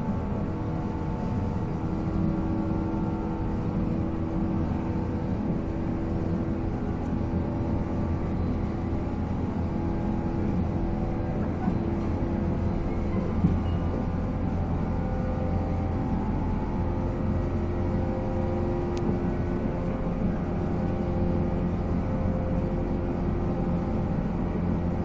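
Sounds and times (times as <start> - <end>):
train motor humming: 0.0 - 25.0
wheels rumbling on rail: 0.0 - 25.0.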